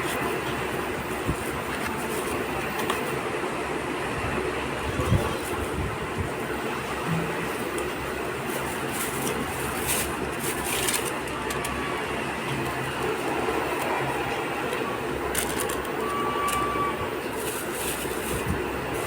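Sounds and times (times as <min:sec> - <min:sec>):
steady mechanical noise: 0:00.0 - 0:19.0.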